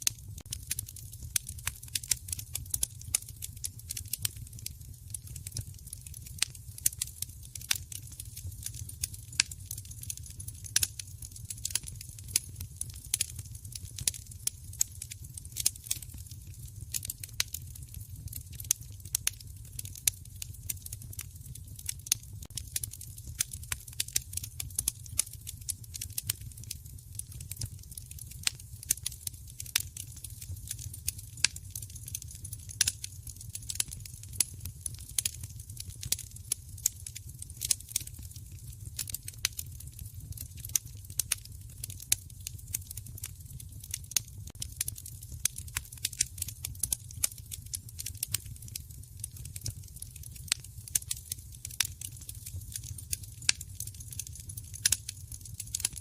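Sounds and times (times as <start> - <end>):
fire crackling pops and snaps: 0.0 - 56.0
low rumble of burning fire: 0.0 - 56.0.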